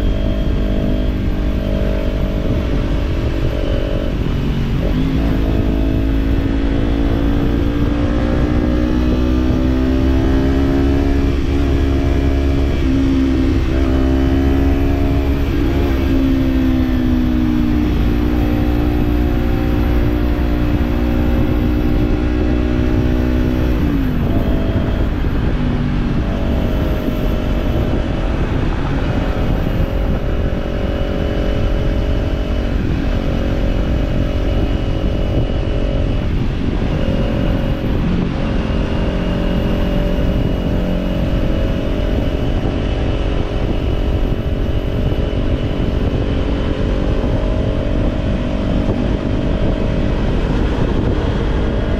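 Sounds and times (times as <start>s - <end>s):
motorcycle engine cruising: 0.0s - 51.9s
wind on microphone: 0.0s - 51.9s.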